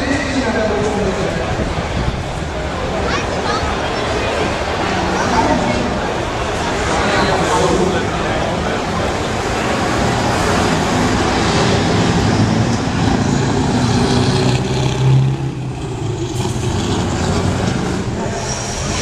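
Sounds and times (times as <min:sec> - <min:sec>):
truck engine driving past: 0:01.5 - 0:19.0.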